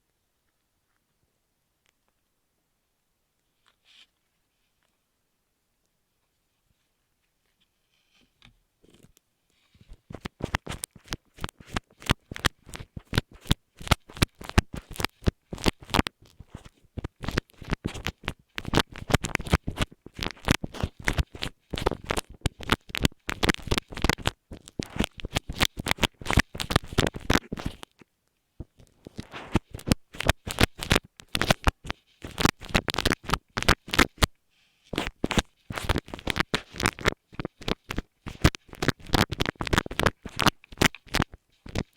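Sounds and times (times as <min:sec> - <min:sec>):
scratching on microphone: 0:07.6 - 0:28.0, 0:28.6 - 0:41.9.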